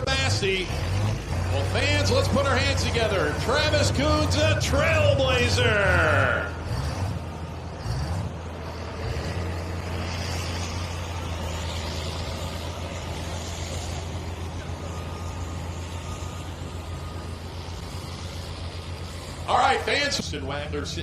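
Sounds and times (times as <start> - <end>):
heavy engine idling: 0.0 - 21.0.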